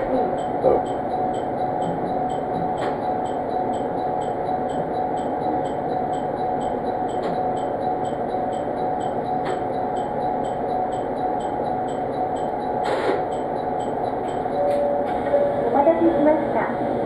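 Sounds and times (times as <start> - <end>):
railcar running hum: 0.0 - 17.0.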